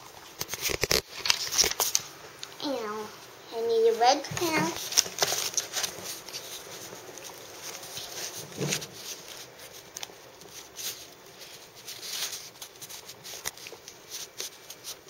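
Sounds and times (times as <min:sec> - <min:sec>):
paper rustling: 0:00.4 - 0:02.1, 0:04.0 - 0:15.0.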